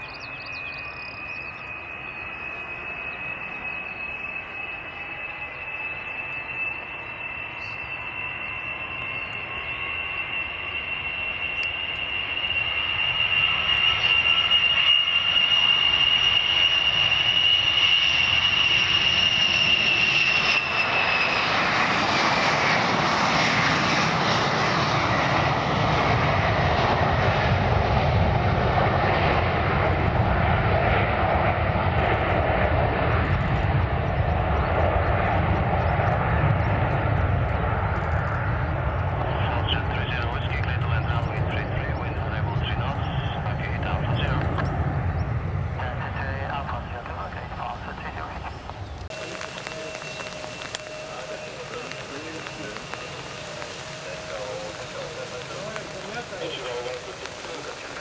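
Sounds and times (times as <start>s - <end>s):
jet airliner taking off: 0.0s - 58.0s.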